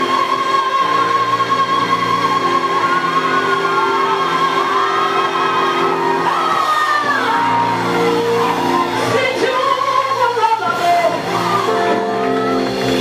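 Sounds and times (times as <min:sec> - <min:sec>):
woman singing gospel: 0:00.0 - 0:13.0.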